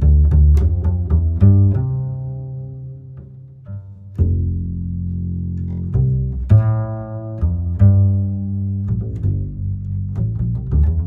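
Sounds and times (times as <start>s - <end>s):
background music with bass notes: 0.0s - 11.0s.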